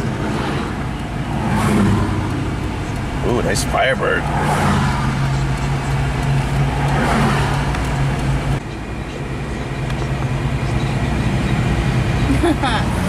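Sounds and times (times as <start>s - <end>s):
car engine hum and road noise: 0.0s - 13.0s
oncoming traffic passing: 0.0s - 13.0s.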